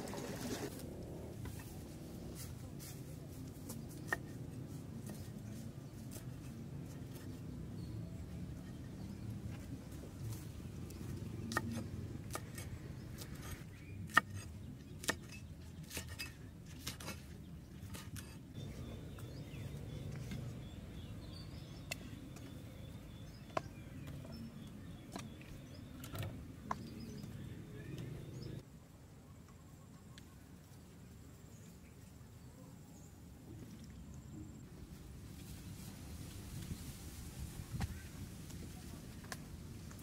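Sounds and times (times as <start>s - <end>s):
low outdoor background: 0.0s - 40.0s.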